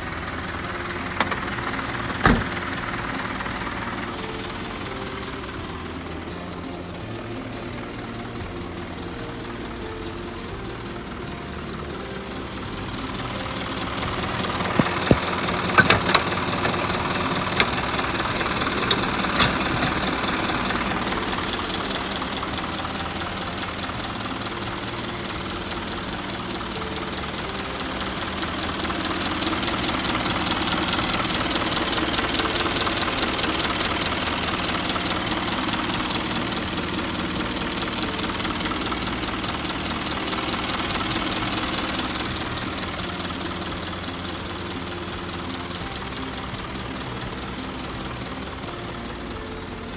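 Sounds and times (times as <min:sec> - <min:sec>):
truck engine idling: 0:00.0 - 0:49.9.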